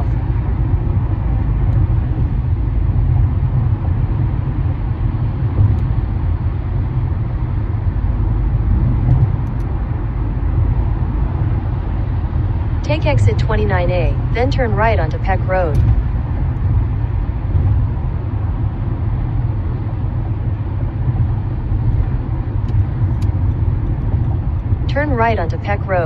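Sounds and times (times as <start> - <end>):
tyre and road noise: 0.0 - 26.0.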